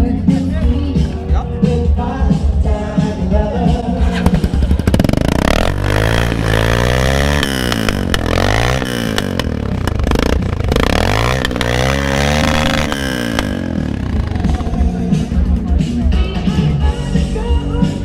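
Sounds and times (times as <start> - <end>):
motorcycle engine revving: 3.0 - 18.0.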